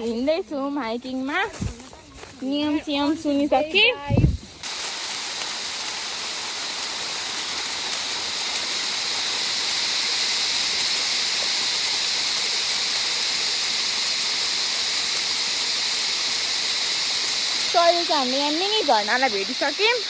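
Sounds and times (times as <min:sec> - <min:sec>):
insects calling: 0:00.0 - 0:20.0
small waterfall hissing: 0:00.0 - 0:20.0.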